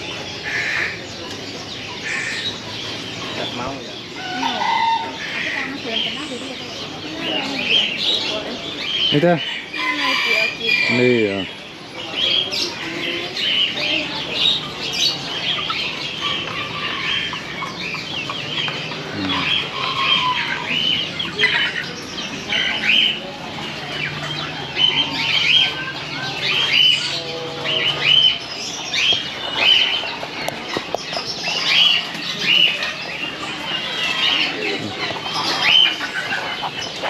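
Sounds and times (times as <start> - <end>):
many birds chirping: 0.0 - 37.0.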